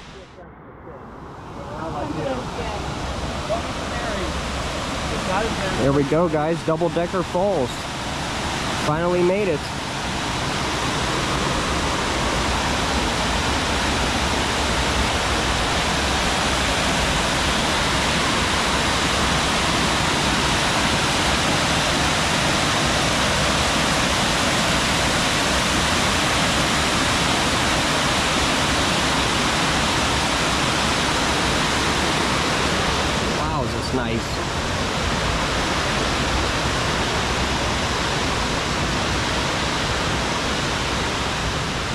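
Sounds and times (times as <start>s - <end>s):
waterfall rushing: 1.3s - 41.9s.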